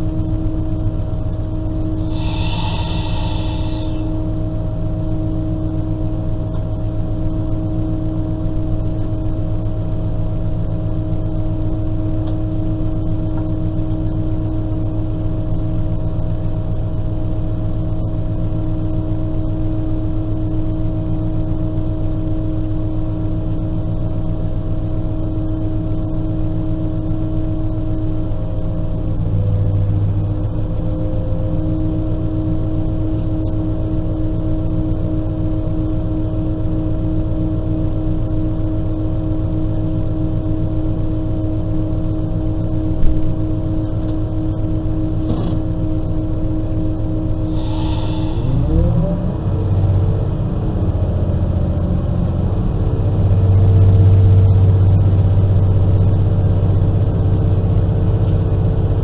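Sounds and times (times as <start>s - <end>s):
diesel railcar engine idling: 0.0s - 59.0s.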